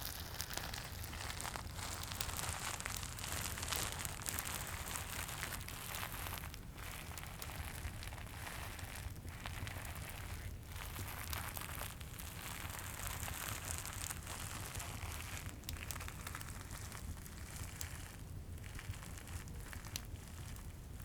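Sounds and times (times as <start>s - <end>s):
fireplace crackling: 0.0s - 21.0s
wrapper crinkling: 0.0s - 21.0s.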